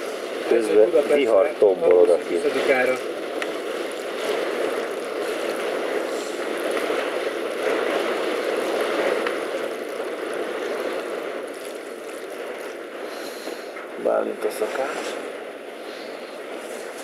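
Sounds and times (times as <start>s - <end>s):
wind and rain storm: 0.0s - 17.0s.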